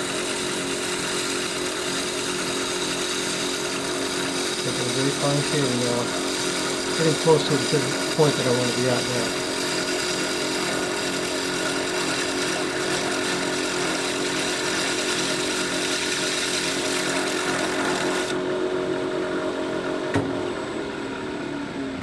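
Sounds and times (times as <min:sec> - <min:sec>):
chisel cutting hiss: 0:00.0 - 0:18.4
wood lathe humming: 0:00.0 - 0:20.0.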